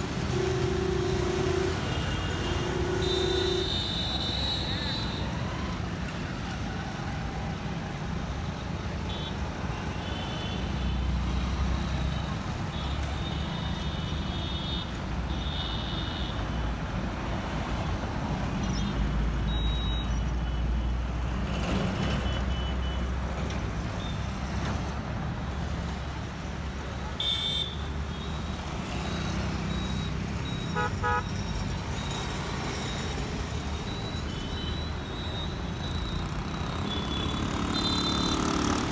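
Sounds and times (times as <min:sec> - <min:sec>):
cars and motorcycles passing: 0:00.0 - 0:15.5, 0:21.0 - 0:38.9.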